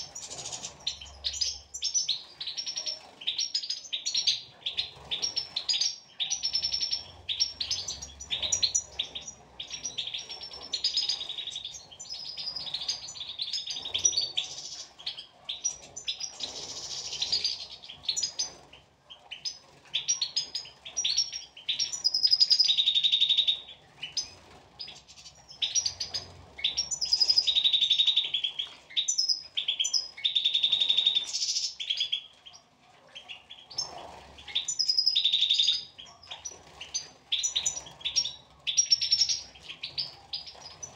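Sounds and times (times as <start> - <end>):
finches twittering: 0.0 - 32.6, 33.2 - 40.9.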